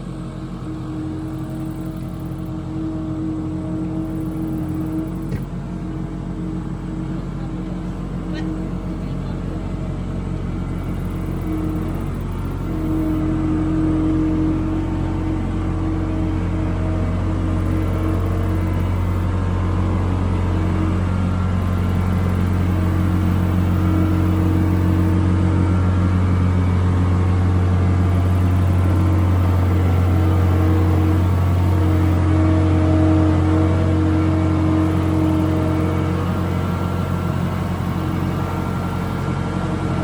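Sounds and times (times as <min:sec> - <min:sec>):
skid loader engine running: 0:00.0 - 0:40.0.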